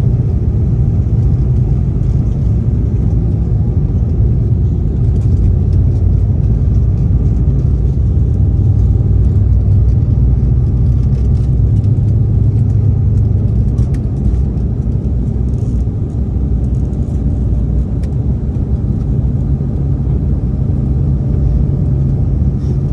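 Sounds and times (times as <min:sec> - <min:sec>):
jet engines roaring at takeoff: 0:00.0 - 0:22.9.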